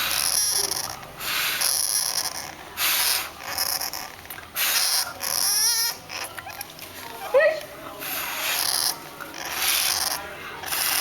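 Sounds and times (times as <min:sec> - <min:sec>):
hamster snoring: 0:00.0 - 0:05.9, 0:08.1 - 0:11.0.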